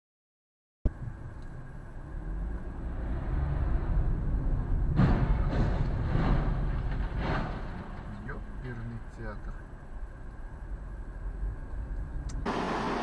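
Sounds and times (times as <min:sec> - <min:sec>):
car road and engine rumble: 0:00.9 - 0:13.0.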